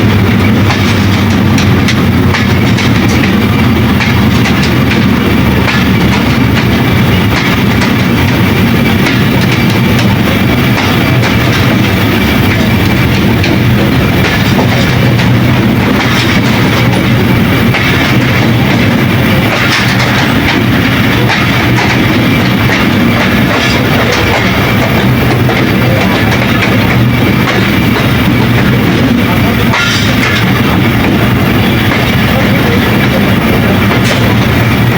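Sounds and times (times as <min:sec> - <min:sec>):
train running noise: 0:00.0 - 0:34.9.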